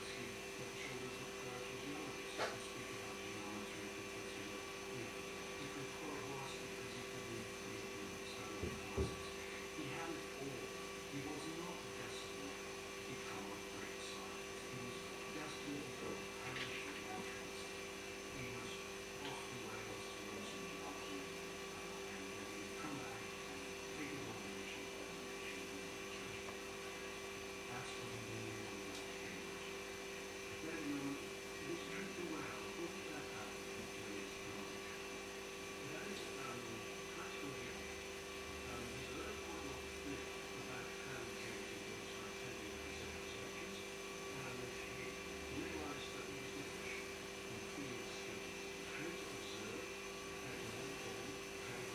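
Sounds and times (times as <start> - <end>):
electrical hum: 0.0 - 51.9
faint background noises: 0.0 - 51.9.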